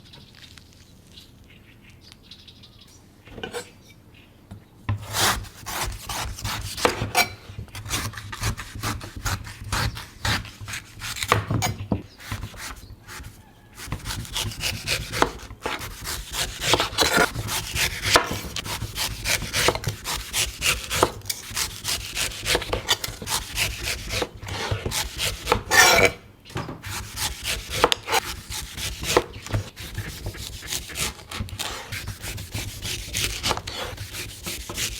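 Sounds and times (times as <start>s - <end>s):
knife chopping and scraping coconut: 4.9s - 34.9s.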